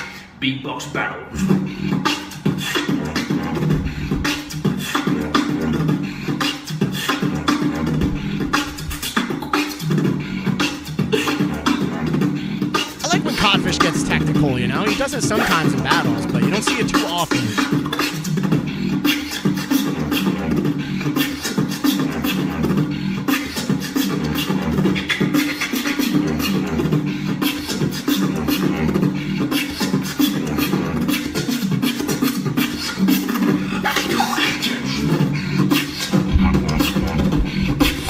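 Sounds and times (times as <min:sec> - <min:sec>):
person beatboxing: 0:01.3 - 0:38.0.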